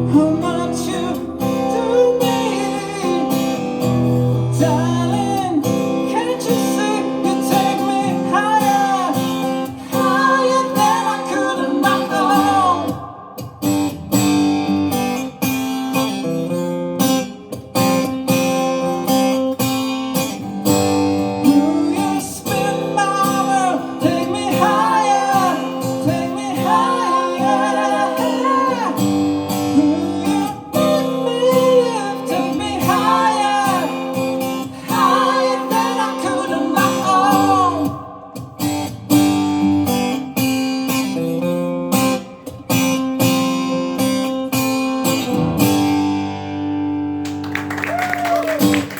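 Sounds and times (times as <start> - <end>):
acoustic guitar: 0.0 - 48.9.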